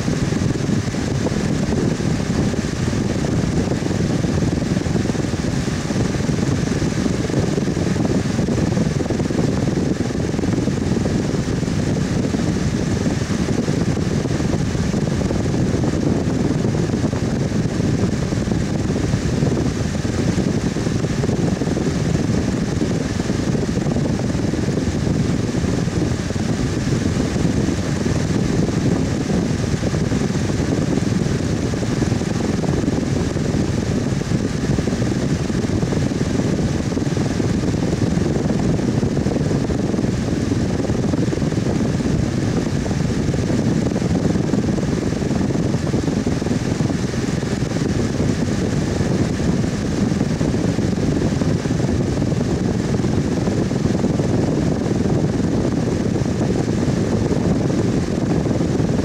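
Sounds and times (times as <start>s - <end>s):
electric fan whooshing: 0.0s - 59.0s
faint steady hum: 0.0s - 59.0s.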